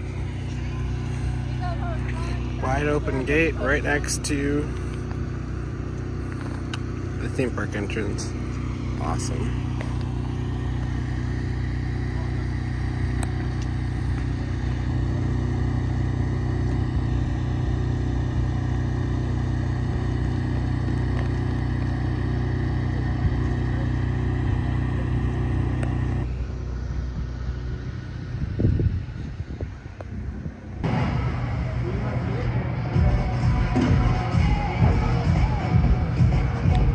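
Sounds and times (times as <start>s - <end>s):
machine engine humming: 0.0s - 36.9s.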